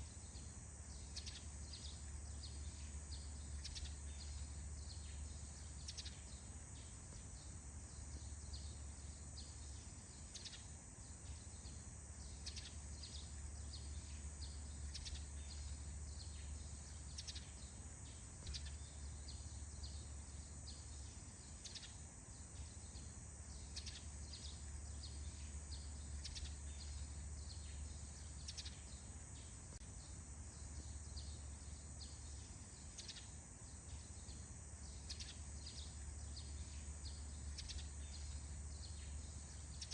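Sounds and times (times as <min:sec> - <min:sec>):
bird chirps: 0:00.0 - 0:39.9
steady high-pitched hiss: 0:00.0 - 0:39.9.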